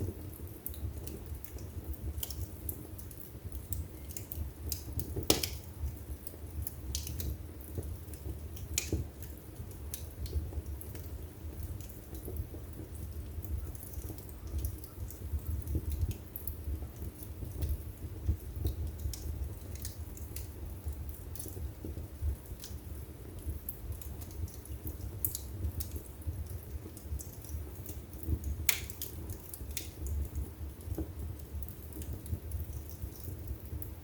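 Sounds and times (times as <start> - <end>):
flames rumbling: 0.0 - 34.0
logs crackling and popping: 0.0 - 34.0.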